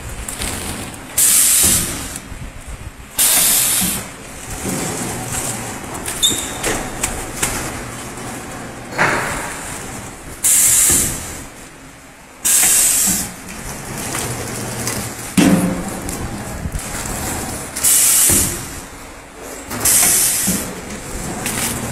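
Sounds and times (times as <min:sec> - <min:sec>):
packing machine running: 0:00.0 - 0:21.9.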